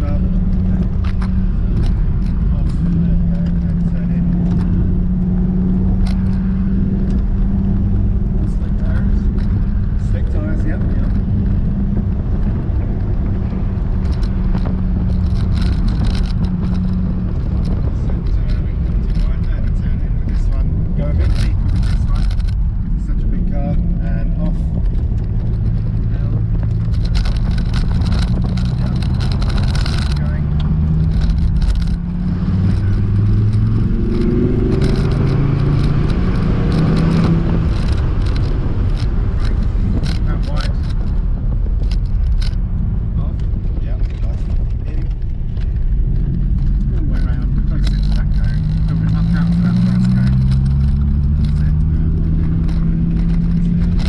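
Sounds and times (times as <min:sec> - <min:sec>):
car engine running: 0:00.0 - 0:54.0
road and tyre noise: 0:00.0 - 0:54.0.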